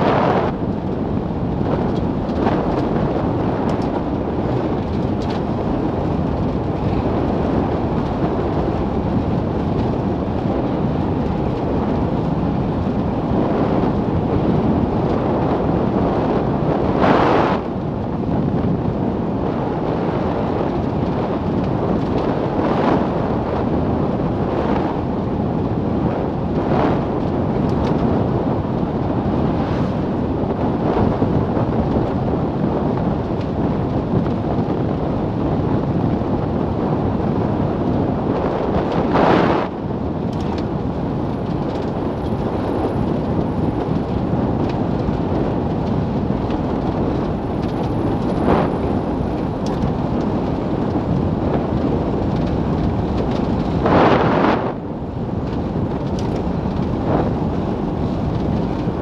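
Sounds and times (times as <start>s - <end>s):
road rumble: 0.0s - 59.0s
wind rushing over microphone: 0.0s - 59.0s.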